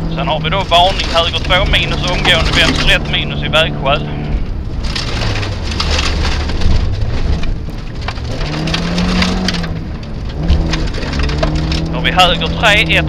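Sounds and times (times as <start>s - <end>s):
car engine: 0.0s - 13.0s
gravel clattering against underbody: 0.1s - 13.0s.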